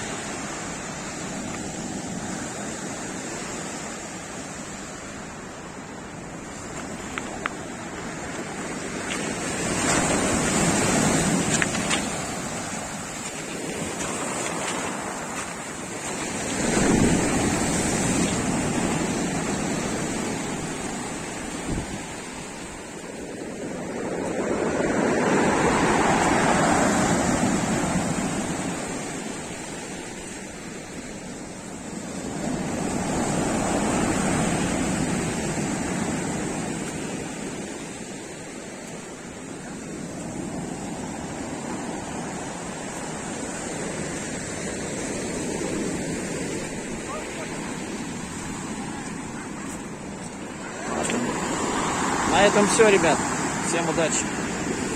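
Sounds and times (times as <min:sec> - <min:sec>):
waves breaking on shore: 0:00.0 - 0:54.9.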